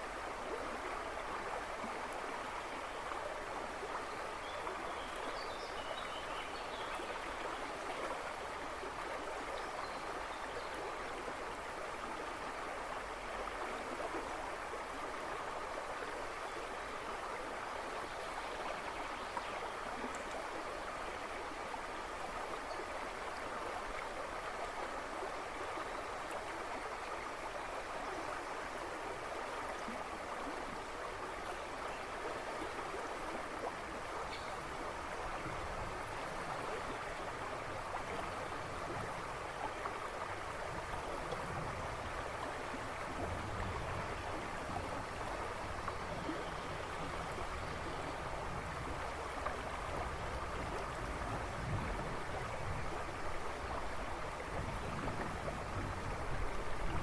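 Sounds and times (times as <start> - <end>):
river babbling over stones: 0.0 - 57.0.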